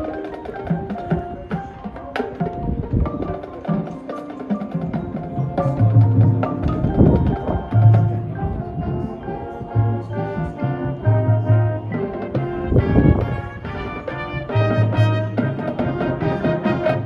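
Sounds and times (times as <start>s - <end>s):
mallet percussion notes: 0.0s - 17.0s
marching band playing: 0.0s - 17.0s
percussion strikes: 0.0s - 17.0s.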